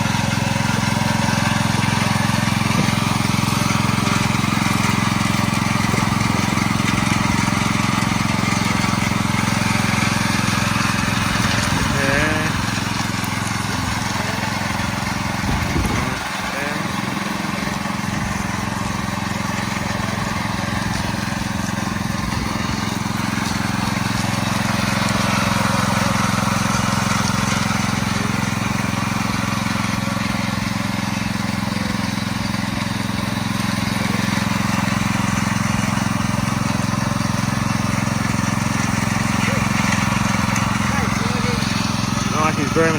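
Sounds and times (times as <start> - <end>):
small petrol engine running: 0.0 - 42.9.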